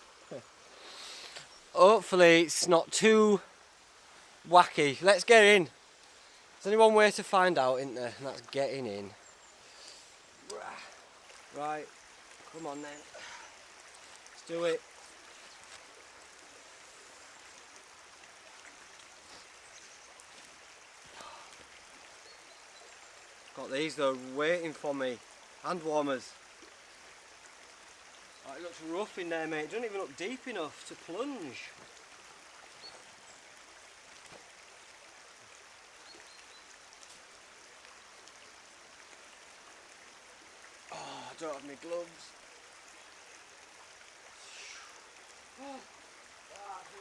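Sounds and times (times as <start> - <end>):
river water running: 0.0 - 47.0.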